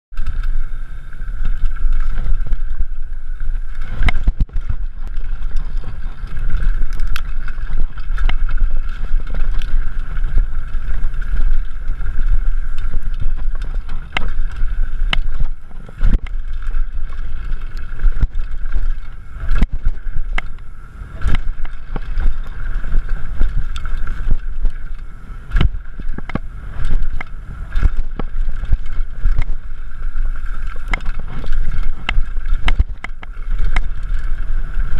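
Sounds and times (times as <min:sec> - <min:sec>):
bike knocking and rattling: 0:00.1 - 0:34.9
steady high buzz: 0:00.1 - 0:34.9
wind rumbling on microphone: 0:00.1 - 0:34.9
tyres rolling on dirt: 0:00.2 - 0:34.9.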